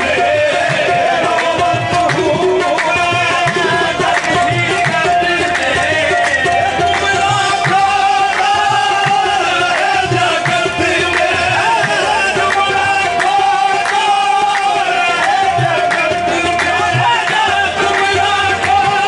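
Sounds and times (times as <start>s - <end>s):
man singing: 0.0s - 19.0s
steady percussion beat: 0.0s - 19.0s.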